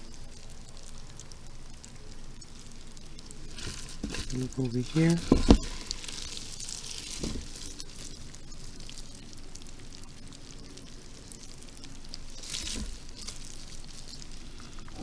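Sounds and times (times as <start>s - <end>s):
faint wet crackling and ticking: 0.0s - 15.0s.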